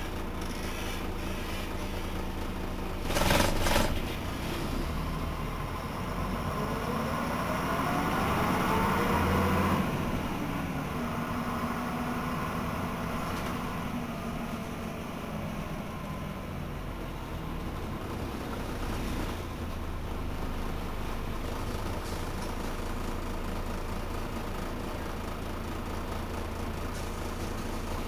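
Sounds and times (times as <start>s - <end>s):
bus diesel engine pulling away: 0.0s - 28.0s.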